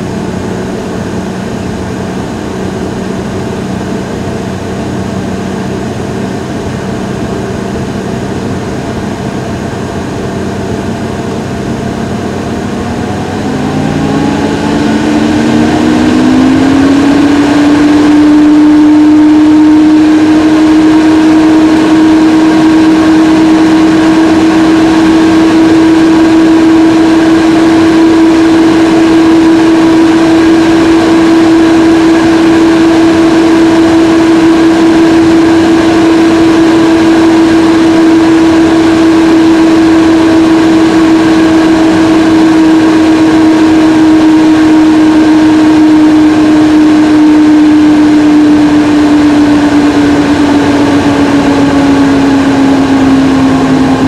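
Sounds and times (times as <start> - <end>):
cooling fans whining at high speed: 0.0 - 54.0.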